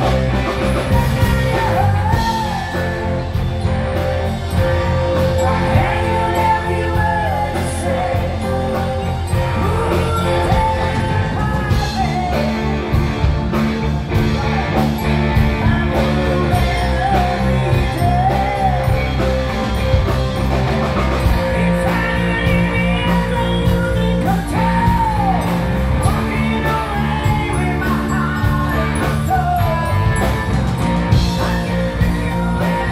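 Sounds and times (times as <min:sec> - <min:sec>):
woman singing: 0:00.0 - 0:13.1, 0:14.2 - 0:20.0, 0:21.2 - 0:32.9
drum kit beat: 0:00.0 - 0:32.9
electric bass: 0:00.0 - 0:32.9
electric guitar: 0:00.0 - 0:32.9.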